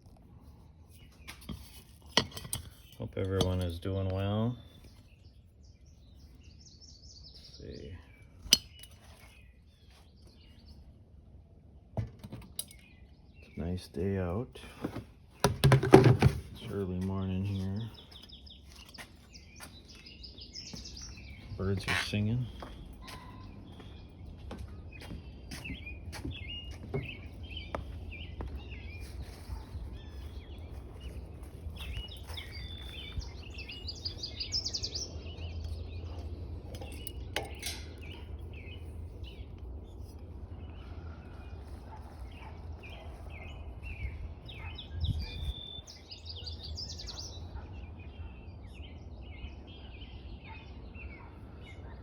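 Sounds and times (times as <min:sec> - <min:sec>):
songbirds singing and chirping: 0:00.0 - 0:52.0.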